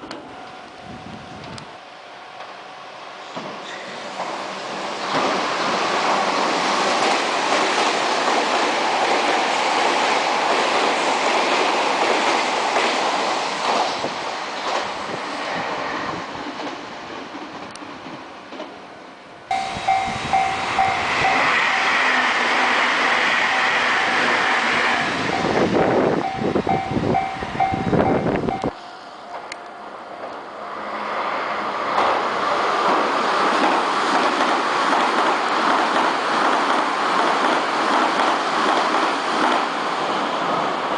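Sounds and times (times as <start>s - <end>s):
electric train passing: 0.0s - 40.9s.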